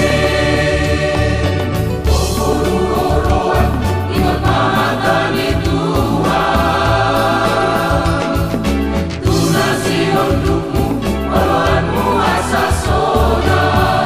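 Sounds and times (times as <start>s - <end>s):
choir singing in parts: 0.0s - 14.0s
low instrumental bass line: 0.0s - 14.0s.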